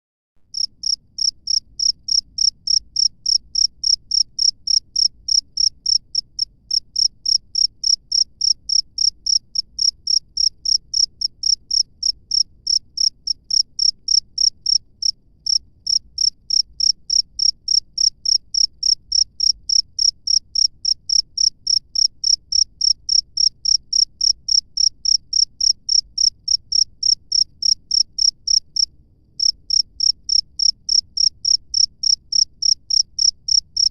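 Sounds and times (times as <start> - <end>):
cricket chirping: 0.5 - 33.9.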